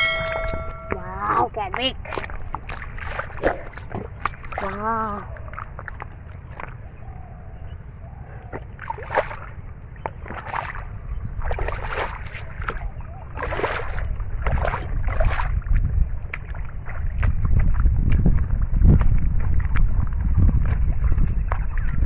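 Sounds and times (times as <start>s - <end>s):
bare feet squelching in mud: 1.8s - 7.0s, 8.4s - 22.0s.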